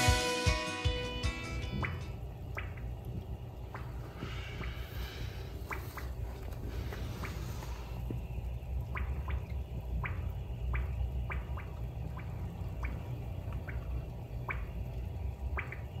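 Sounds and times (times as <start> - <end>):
steady low hum: 0.0 - 16.0
bubbling bloops of water filter: 1.6 - 16.0.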